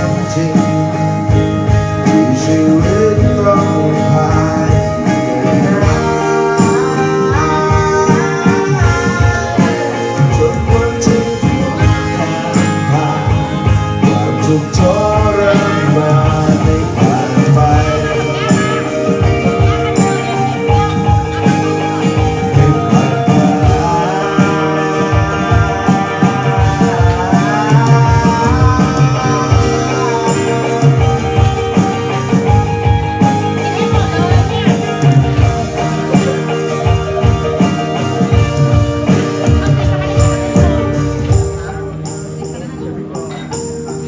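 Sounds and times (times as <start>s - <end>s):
guitar with sliding rising notes: 0.0s - 44.0s
steady drum beat: 0.0s - 44.0s.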